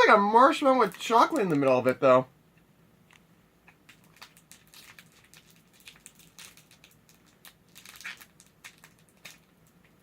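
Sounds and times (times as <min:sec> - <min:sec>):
candy wrapper crinkling: 0:00.0 - 0:02.0, 0:03.8 - 0:10.0.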